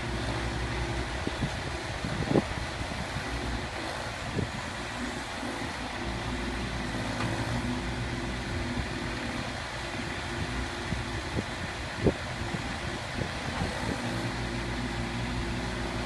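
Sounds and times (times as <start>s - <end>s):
construction machine engine running: 0.0s - 16.0s.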